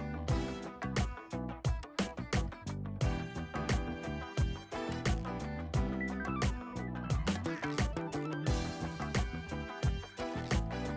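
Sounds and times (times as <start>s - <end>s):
drum hits: 0.3s - 10.9s.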